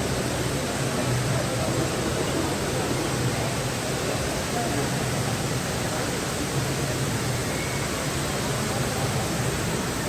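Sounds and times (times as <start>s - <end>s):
indoor waterfall rushing: 0.0s - 10.0s.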